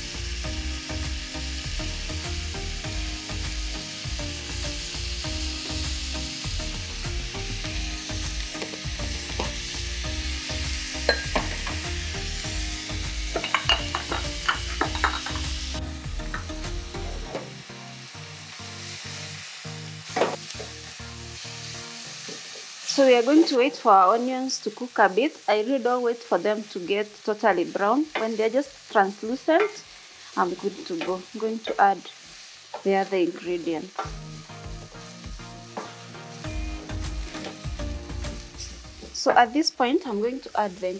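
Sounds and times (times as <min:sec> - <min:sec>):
onions sizzling in hot oil: 0:00.0 - 0:40.9.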